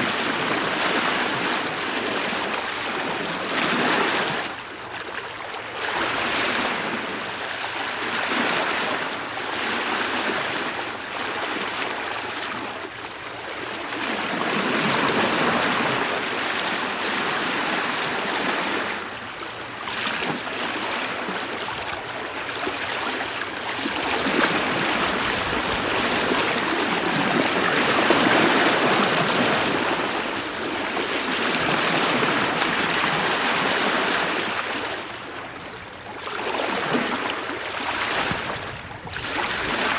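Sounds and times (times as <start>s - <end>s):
bow wave water rushing and splashing: 0.0s - 39.9s.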